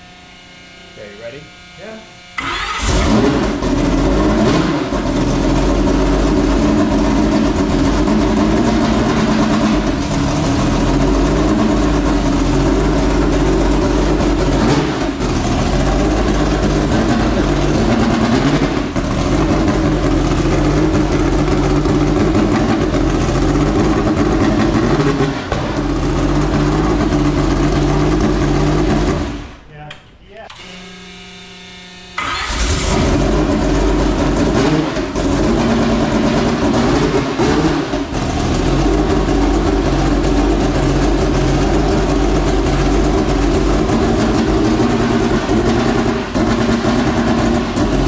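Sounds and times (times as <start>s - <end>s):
engine idling roughly: 2.4s - 29.6s, 32.2s - 48.0s.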